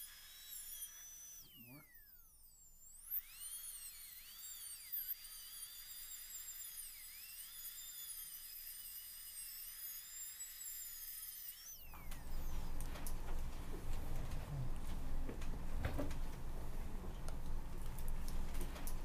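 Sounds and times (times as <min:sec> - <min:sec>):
dental drill whining: 0:00.0 - 0:15.6.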